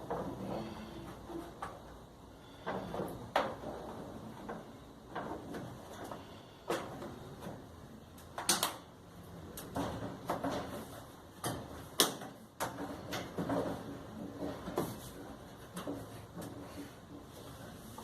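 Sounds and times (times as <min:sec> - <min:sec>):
clicks and knocks of dryer parts: 0:00.0 - 0:17.3.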